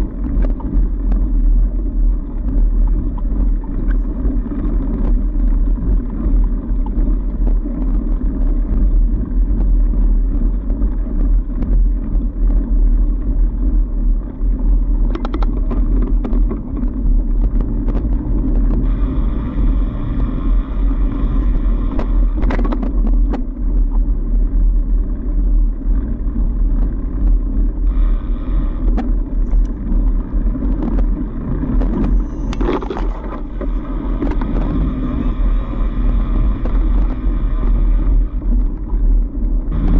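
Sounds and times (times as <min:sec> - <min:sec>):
bike clicks and rattles: 0:00.0 - 0:39.9
bike tyres rumbling on snow: 0:00.0 - 0:39.9
wind buffeting microphone: 0:00.0 - 0:39.9.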